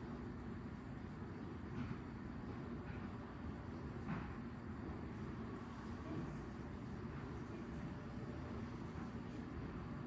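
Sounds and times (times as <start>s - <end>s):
low room rumble: 0.0s - 10.0s.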